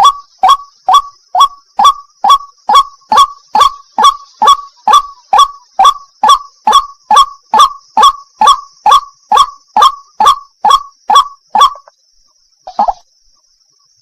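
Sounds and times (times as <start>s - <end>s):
waterhen calling: 0.0s - 11.9s, 12.7s - 13.0s.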